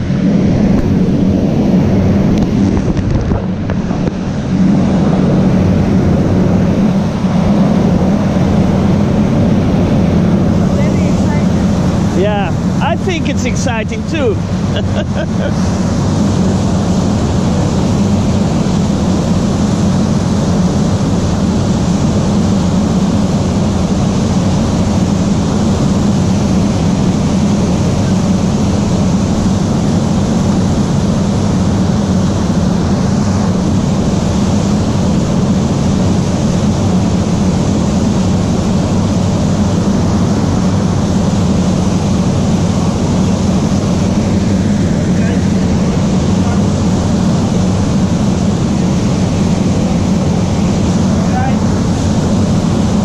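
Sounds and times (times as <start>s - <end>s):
ferry engines droning: 0.0s - 53.0s.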